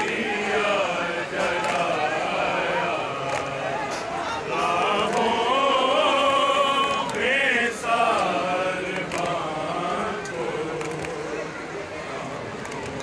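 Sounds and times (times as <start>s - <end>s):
men chanting a lament: 0.0s - 11.6s.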